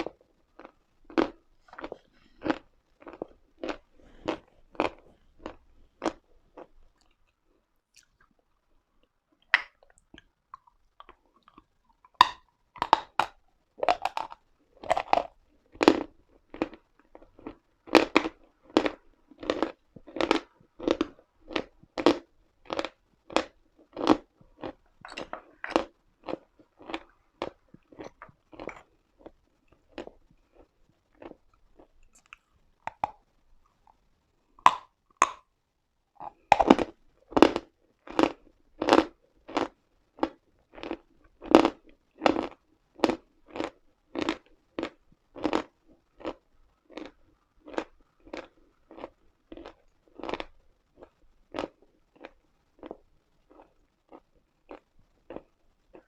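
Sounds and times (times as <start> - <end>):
chalk crunched and chewed: 0.0 - 8.4, 9.0 - 34.0, 36.2 - 56.0.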